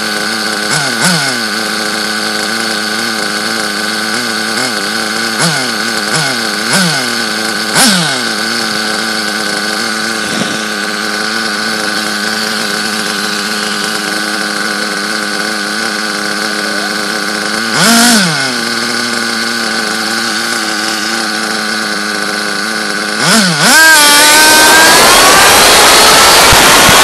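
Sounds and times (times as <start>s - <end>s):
engine revving up: 0.0s - 27.0s
small two-stroke engine idling: 0.0s - 27.0s.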